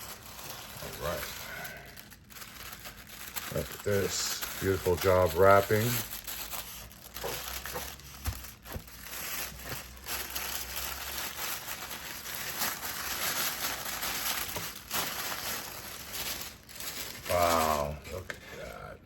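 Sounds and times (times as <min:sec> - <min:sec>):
packaging wrap rustling: 0:00.0 - 0:18.4.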